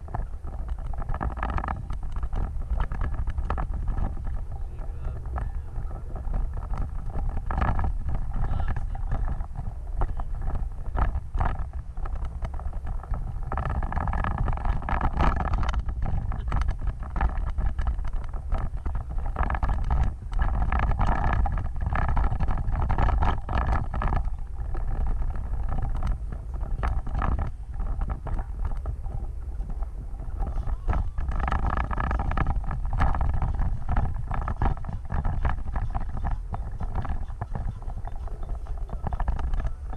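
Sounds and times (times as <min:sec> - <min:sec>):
knocks and rattles: 0:00.0 - 0:39.9
off-road vehicle engine rumble: 0:00.0 - 0:39.9.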